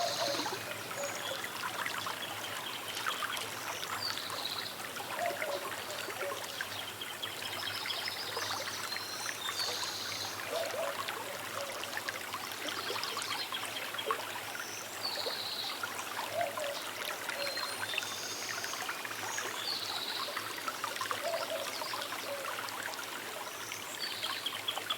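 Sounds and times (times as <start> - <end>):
small river babbling: 0.0 - 24.9.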